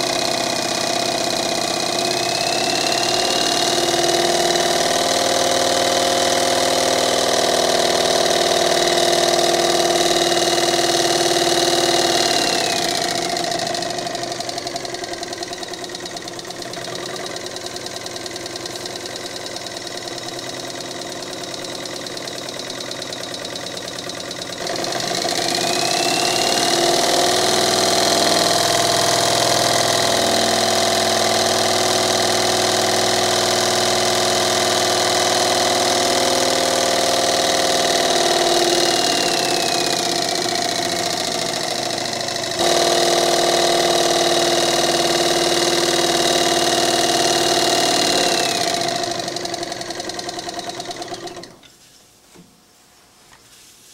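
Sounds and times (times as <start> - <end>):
steam engine running: 0.0 - 51.7.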